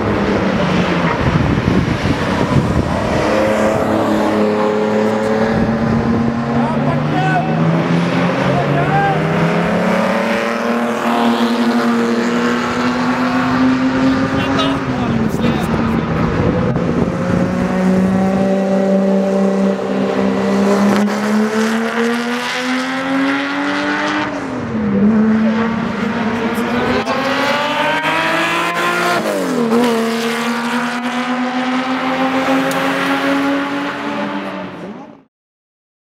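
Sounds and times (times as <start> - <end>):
car engine accelerating: 0.0 - 35.2.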